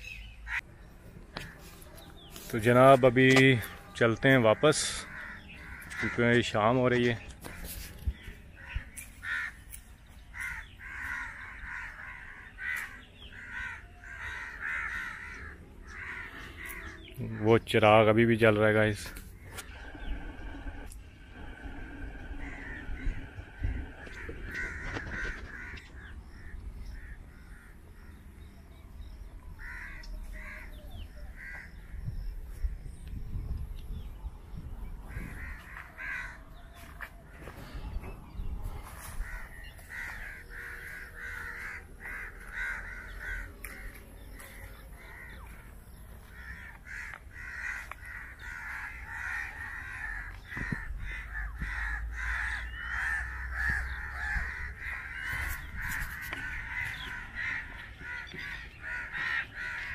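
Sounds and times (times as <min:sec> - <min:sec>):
crows cawing: 0:03.6 - 0:17.2, 0:18.6 - 0:28.2, 0:29.5 - 0:32.2, 0:35.1 - 0:37.9, 0:38.8 - 0:59.9.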